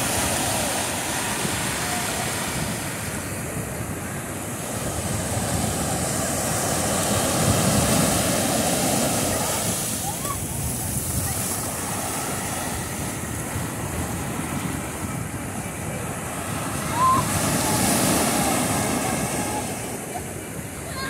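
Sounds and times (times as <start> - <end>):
ocean surf breaking on a beach: 0.0 - 21.0
wind rumbling on microphone: 0.0 - 21.0.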